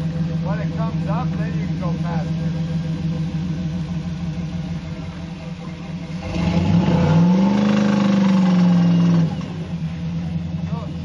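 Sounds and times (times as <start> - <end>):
engine idling and revving: 0.0 - 11.0.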